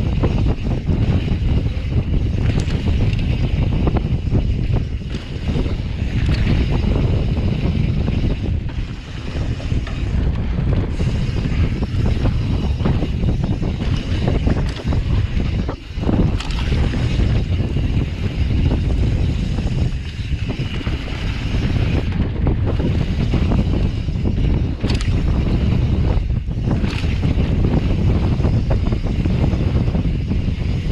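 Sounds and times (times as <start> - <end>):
bike rattling and knocking: 0.0 - 30.9
wind buffeting microphone: 0.0 - 30.9.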